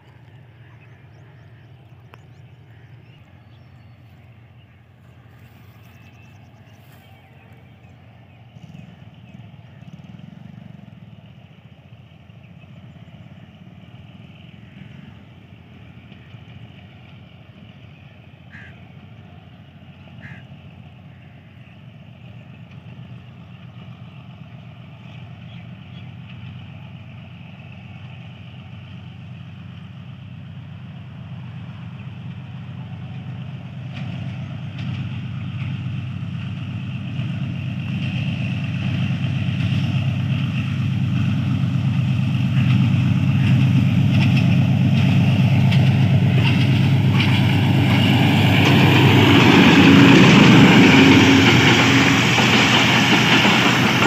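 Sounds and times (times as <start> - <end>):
diesel locomotive engine drone: 0.0 - 54.0
wheel and rail noise: 0.0 - 54.0.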